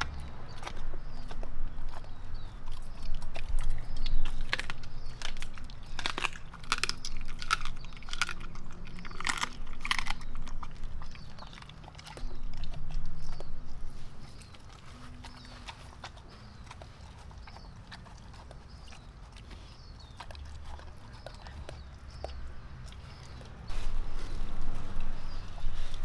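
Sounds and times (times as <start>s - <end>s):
mouth clicks and smacks: 0.0s - 23.7s
dog chewing meat: 0.0s - 26.0s.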